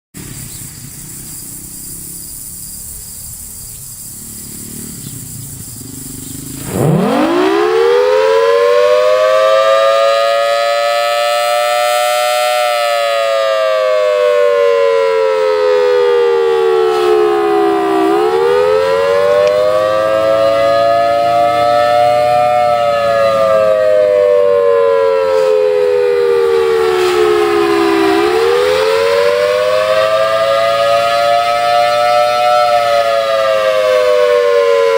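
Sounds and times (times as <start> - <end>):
warning siren wailing: 6.4 - 34.9.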